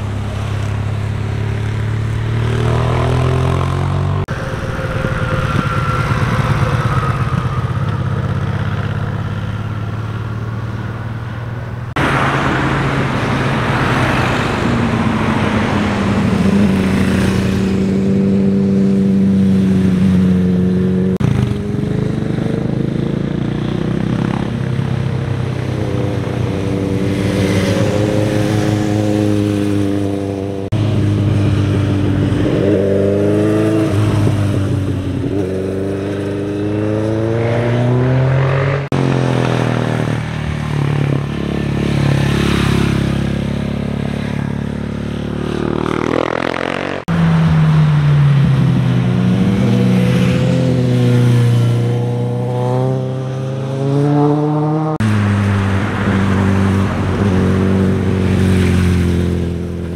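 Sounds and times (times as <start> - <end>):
motorcycles passing: 0.0 - 59.9.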